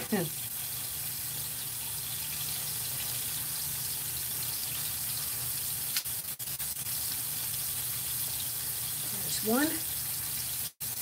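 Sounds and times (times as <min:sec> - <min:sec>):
steaks sizzling in a skillet: 0:00.0 - 0:11.0.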